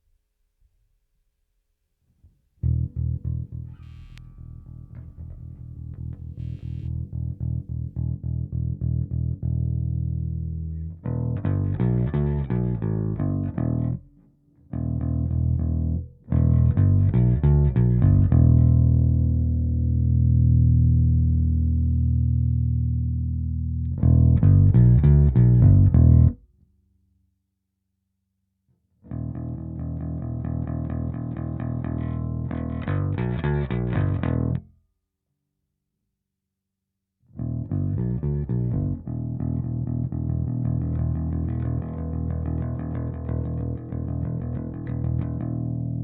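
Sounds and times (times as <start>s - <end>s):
electric bass notes: 2.6s - 26.5s, 29.1s - 34.7s, 37.4s - 46.0s.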